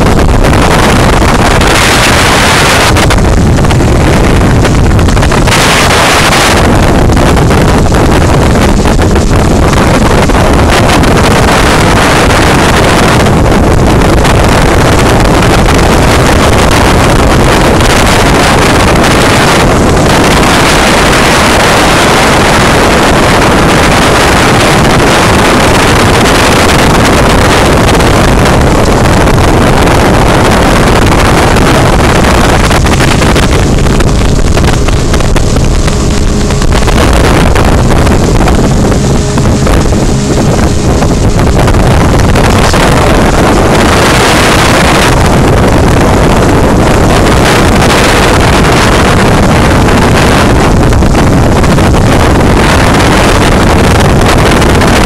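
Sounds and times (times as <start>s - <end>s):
boat motor: 0.0s - 55.0s
rushing water: 0.0s - 55.0s
wind buffeting microphone: 0.0s - 55.0s.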